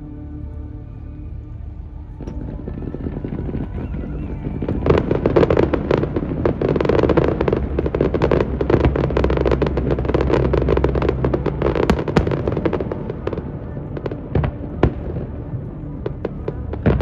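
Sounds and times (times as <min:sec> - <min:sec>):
fireworks crackling: 0:02.2 - 0:17.0.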